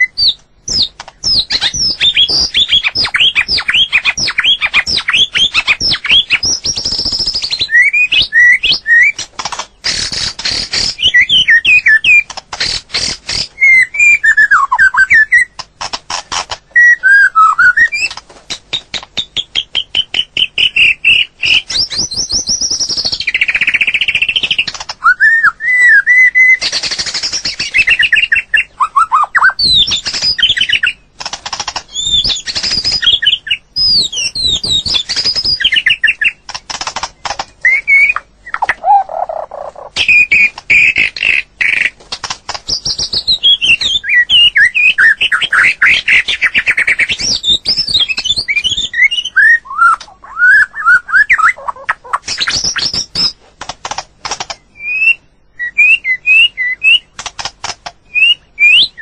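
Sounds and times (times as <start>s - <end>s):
songbird whistling and chattering: 0.0s - 15.6s, 16.6s - 31.1s, 31.8s - 36.4s, 37.0s - 42.0s, 42.7s - 53.4s, 54.5s - 57.2s, 58.0s - 59.0s.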